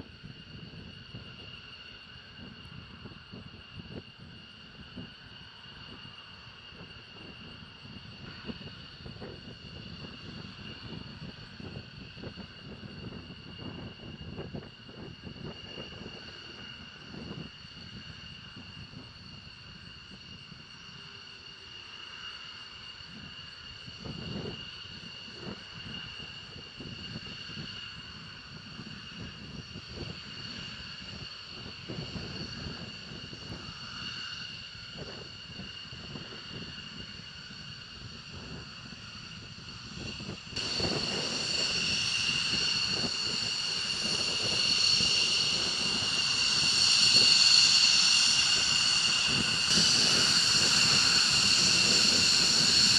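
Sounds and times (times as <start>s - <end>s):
jet engines whining and rumbling: 0.0s - 52.9s.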